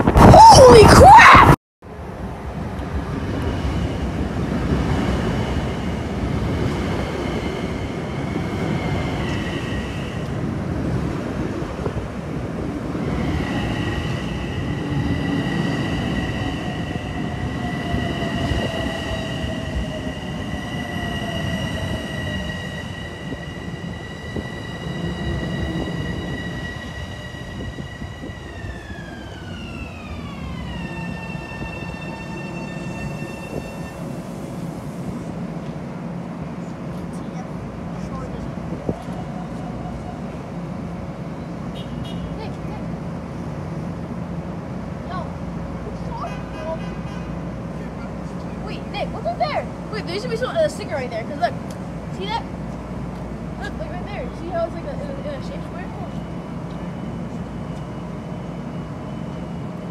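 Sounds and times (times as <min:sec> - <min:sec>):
wheel and rail rumble: 0:01.9 - 0:59.9
electric train whine: 0:02.0 - 0:41.7, 0:47.4 - 0:59.9.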